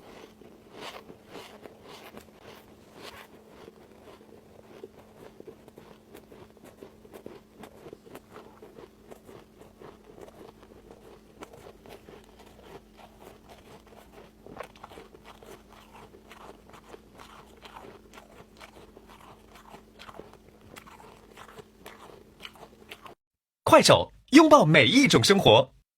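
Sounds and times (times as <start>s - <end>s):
faint steady hum: 0.0s - 23.2s
ice being chewed: 0.0s - 23.2s.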